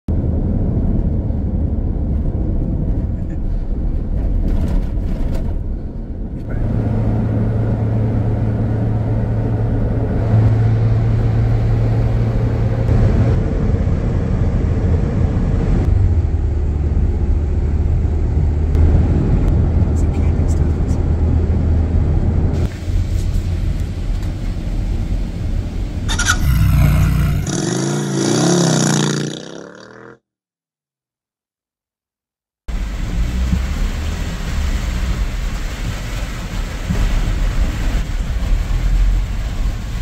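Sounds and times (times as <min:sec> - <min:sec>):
car engine and tyre drone: 0:00.1 - 0:29.4, 0:32.7 - 0:40.0.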